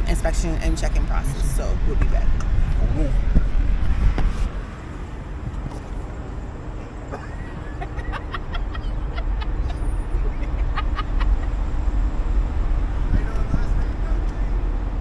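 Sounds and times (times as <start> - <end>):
car rumble: 0.0 - 15.0.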